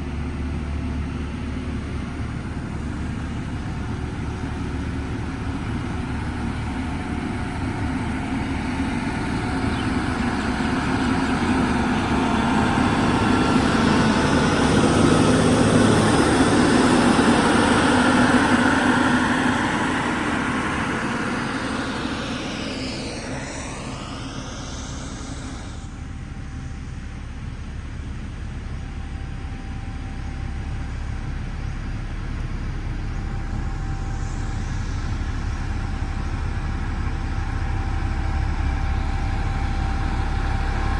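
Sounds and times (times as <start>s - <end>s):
construction machine diesel engine: 0.0s - 40.9s.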